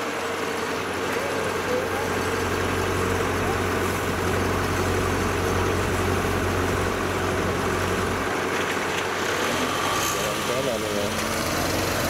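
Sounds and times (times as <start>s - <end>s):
heavy machine engine droning: 0.0s - 12.0s.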